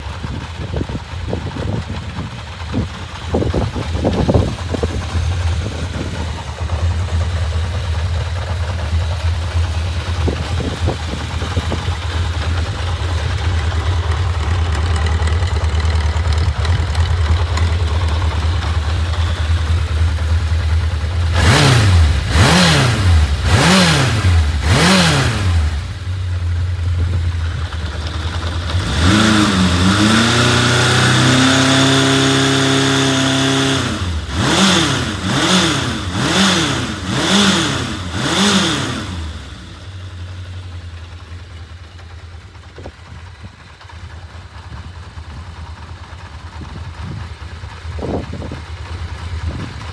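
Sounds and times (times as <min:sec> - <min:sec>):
motorcycle engine idling and revving: 0:00.0 - 0:49.9.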